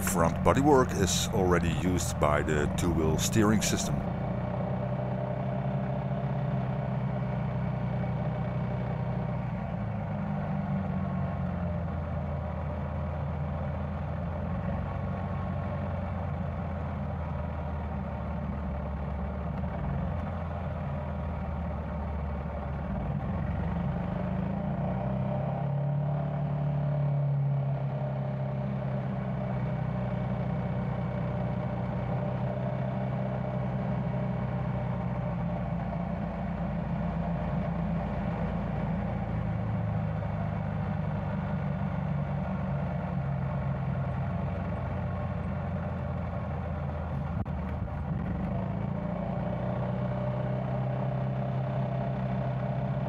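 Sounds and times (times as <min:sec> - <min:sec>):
wind and road noise: 0:03.3 - 0:53.0.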